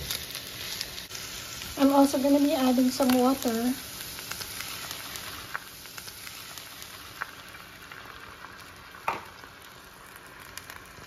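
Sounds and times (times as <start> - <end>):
meat and vegetables sizzling in pan: 0.0 - 11.0.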